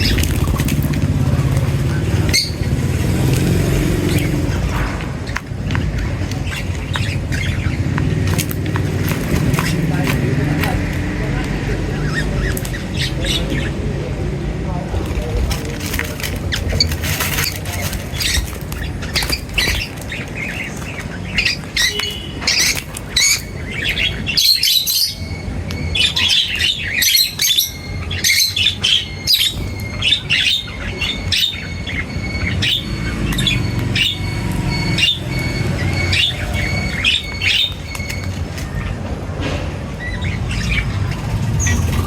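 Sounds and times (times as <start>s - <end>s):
birds chirping and squawking: 0.0s - 42.0s.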